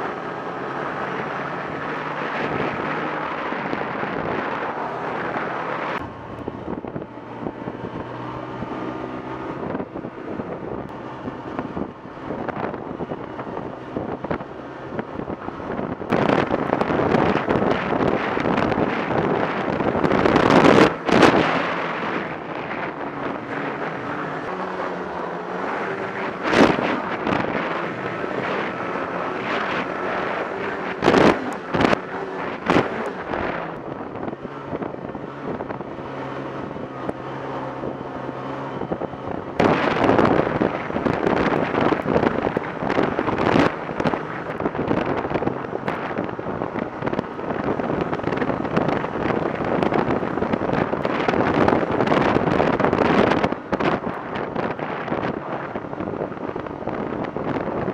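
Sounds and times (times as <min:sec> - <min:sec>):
snowmobile engine running: 0:00.0 - 0:57.9
wind buffeting microphone: 0:00.0 - 0:57.9.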